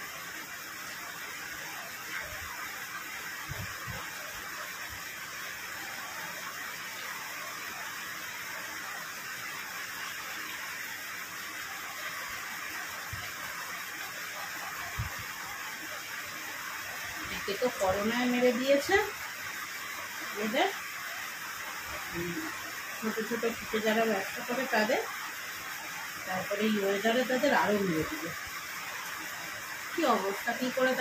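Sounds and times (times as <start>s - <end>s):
steady rushing hiss: 0.0s - 31.0s.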